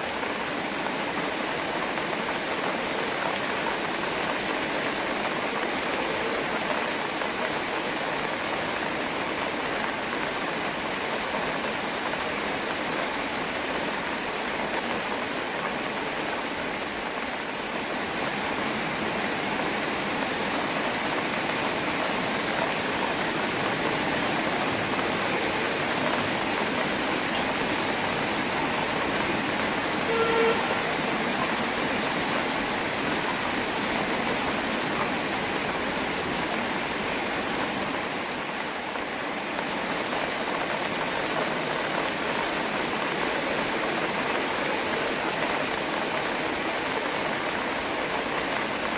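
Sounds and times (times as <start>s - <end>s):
rain falling on a pond: 0.0s - 48.9s.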